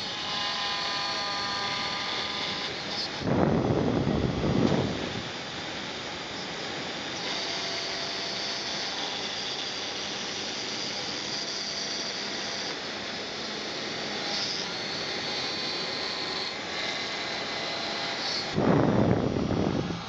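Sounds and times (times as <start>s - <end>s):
milling machine spindle whine: 0.0s - 20.0s.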